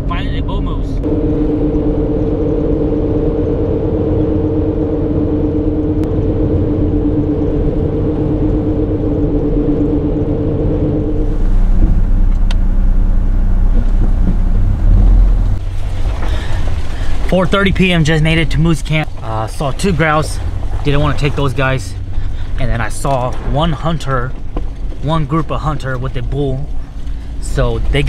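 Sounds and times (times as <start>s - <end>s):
rough low rumble: 0.0s - 28.0s
vehicle road noise drone: 0.0s - 28.0s.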